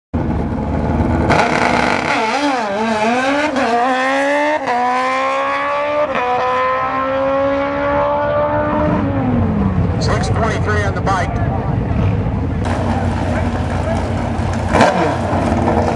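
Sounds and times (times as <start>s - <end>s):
drag racer engine revving: 0.2s - 15.9s.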